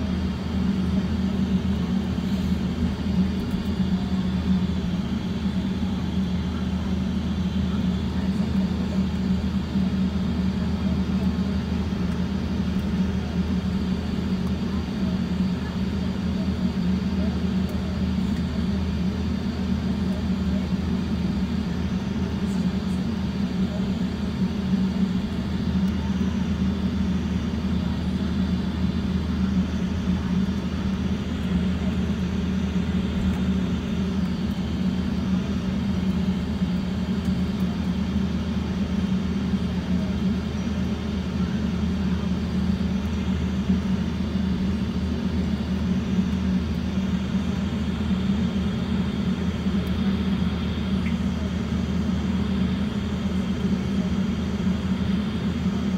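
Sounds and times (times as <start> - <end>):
aircraft cabin low hum: 0.0 - 55.9.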